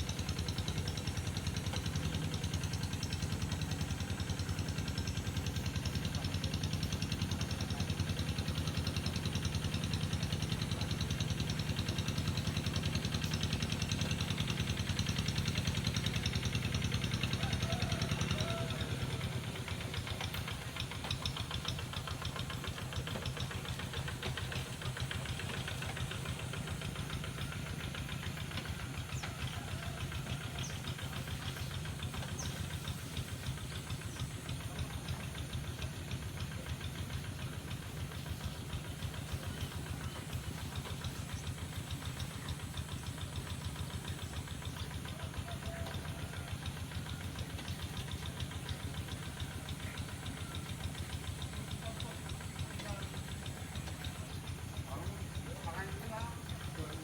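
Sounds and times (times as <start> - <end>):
small engine knocking: 0.0 - 57.0.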